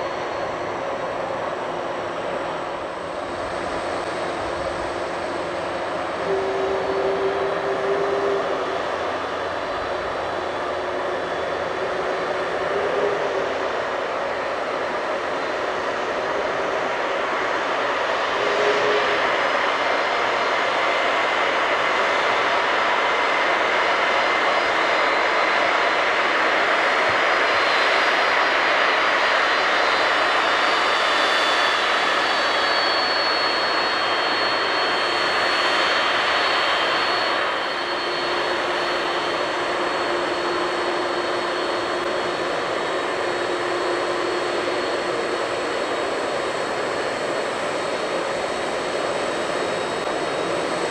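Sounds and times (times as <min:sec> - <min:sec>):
high-pitched engine whines: 0:00.0 - 0:50.9
jet engines running at low power: 0:00.0 - 0:50.9.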